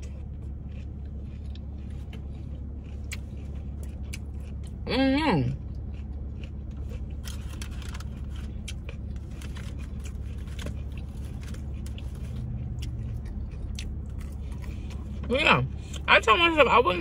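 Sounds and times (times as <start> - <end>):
person chewing: 0.0 - 16.1
steady low hum: 0.0 - 17.0.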